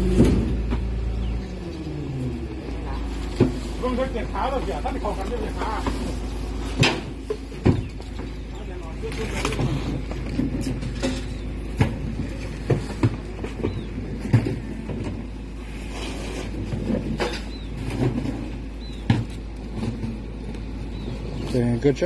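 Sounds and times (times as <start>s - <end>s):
garbage truck engine idling: 0.0s - 22.0s.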